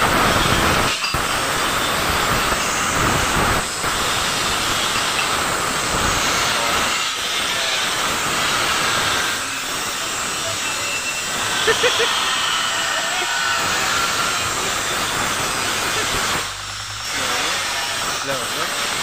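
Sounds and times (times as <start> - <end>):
angle grinder grinding steel: 0.0 - 19.0.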